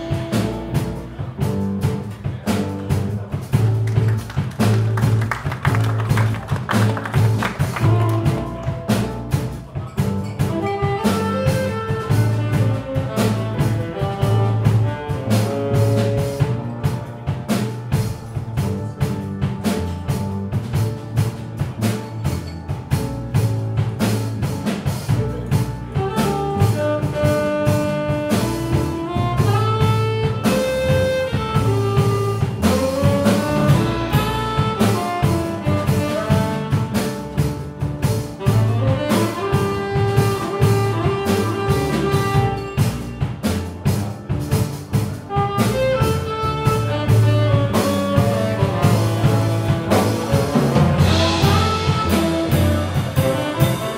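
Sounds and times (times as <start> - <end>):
tenor saxophone: 0.0 - 3.7, 5.7 - 17.0, 25.1 - 53.9
drum kit with ride cymbal: 0.0 - 53.9
piano: 0.0 - 53.9
walking double bass: 0.0 - 53.9.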